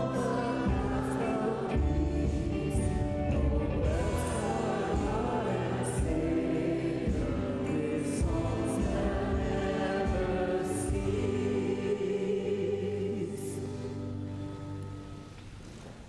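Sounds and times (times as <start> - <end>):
praise band playing: 0.0 - 13.2
choir singing a hymn: 0.0 - 14.9.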